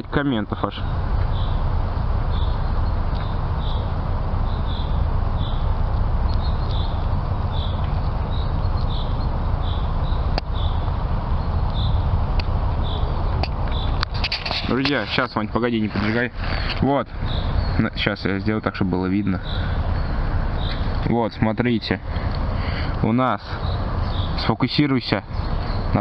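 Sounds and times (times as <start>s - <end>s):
low outdoor rumble: 0.0s - 26.0s
bird chirping: 0.4s - 26.0s.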